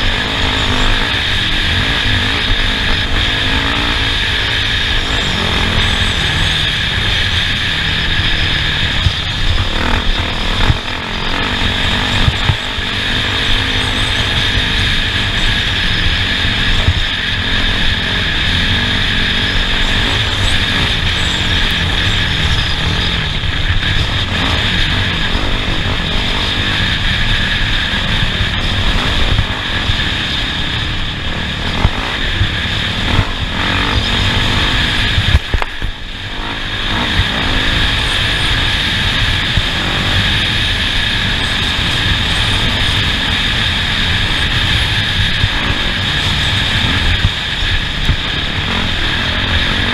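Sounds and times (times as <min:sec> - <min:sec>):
off-road vehicle engine under load: 0:00.0 - 0:49.9.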